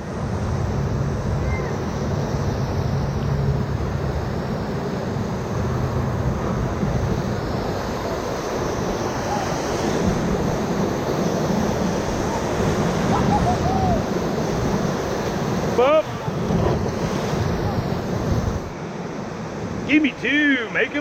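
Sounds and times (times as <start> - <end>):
wind on microphone: 0.0 - 18.9
whitewater rapids rushing: 0.0 - 21.0.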